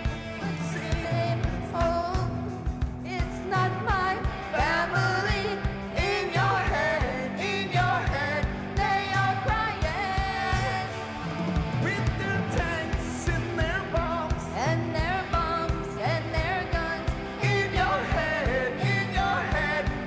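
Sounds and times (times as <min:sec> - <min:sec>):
electric guitar: 0:00.0 - 0:20.0
steady drum beat: 0:00.0 - 0:20.0
woman singing lead vocal: 0:00.4 - 0:11.2, 0:11.8 - 0:20.0.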